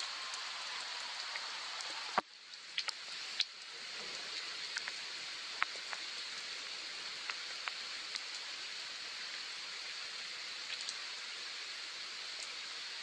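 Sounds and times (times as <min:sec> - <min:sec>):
soft rain hissing: 0:00.0 - 0:13.0.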